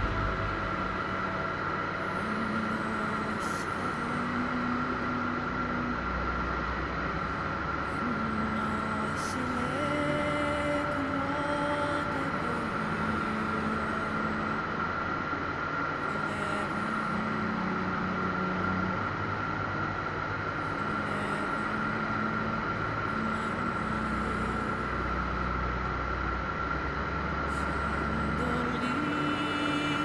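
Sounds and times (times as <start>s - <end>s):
steady high whine: 0.0s - 30.0s.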